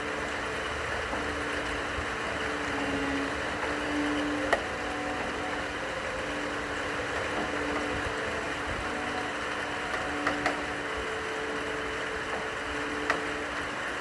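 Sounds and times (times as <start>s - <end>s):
long-held cello notes: 0.0s - 14.0s
steady rain: 0.0s - 14.0s.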